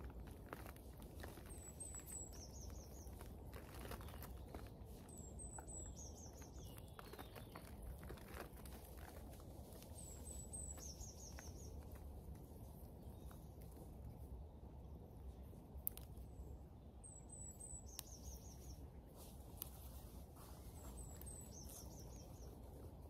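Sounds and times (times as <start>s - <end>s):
crackles and rustles of plants: 0.0s - 23.0s
low steady background rumble: 0.0s - 23.0s.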